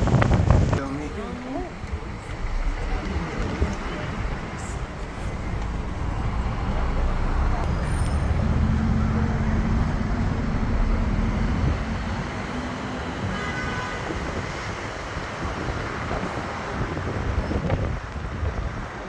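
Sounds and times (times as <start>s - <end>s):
bus engine running: 0.0s - 19.0s
wind and road noise rushing: 0.0s - 19.0s.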